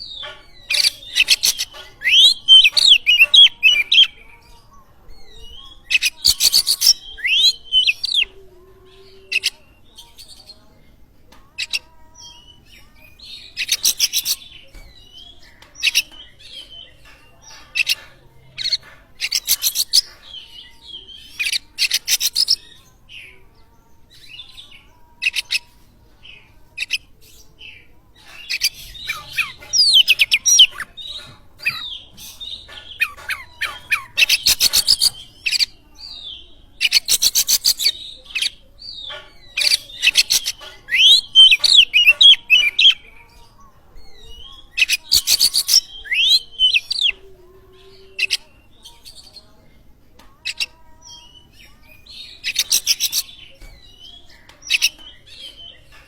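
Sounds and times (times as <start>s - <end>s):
songbird singing rattles and whistles: 0.0s - 8.4s, 11.6s - 23.3s, 24.0s - 47.2s, 50.4s - 56.0s.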